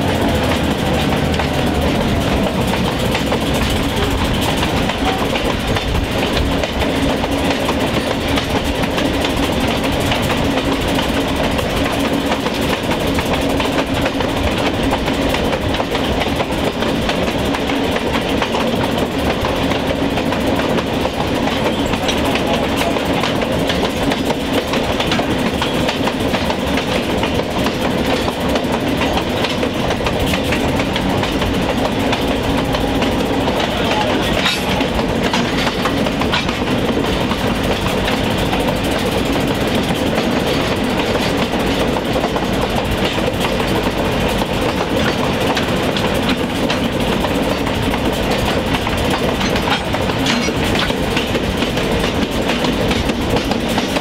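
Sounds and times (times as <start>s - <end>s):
diesel locomotive engine: 0.0s - 54.0s
train wheels clicking on rails: 0.0s - 54.0s.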